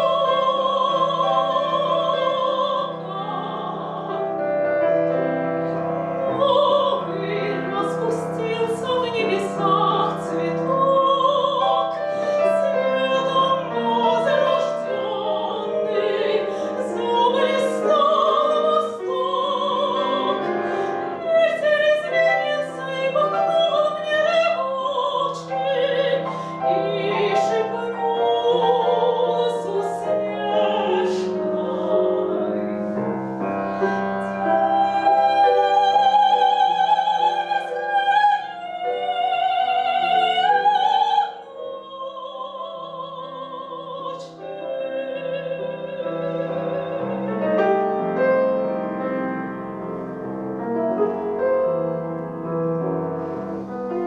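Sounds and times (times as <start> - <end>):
soprano singing with vibrato: 0.0 - 48.2
piano accompaniment: 0.0 - 54.0.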